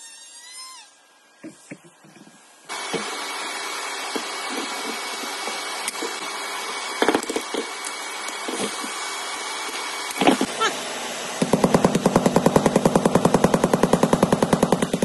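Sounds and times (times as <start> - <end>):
dust extractor running: 2.7 - 15.0.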